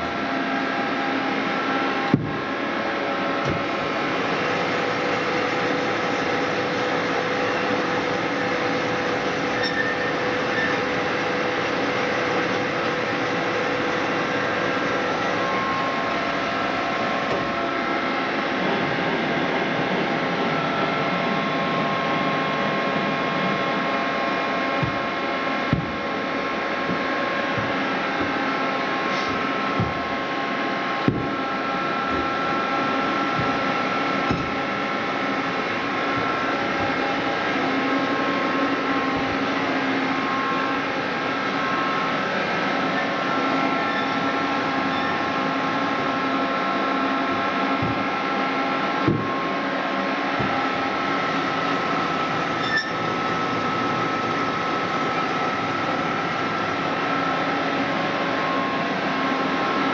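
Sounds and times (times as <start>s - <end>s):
band saw whirring: 0.0s - 59.9s.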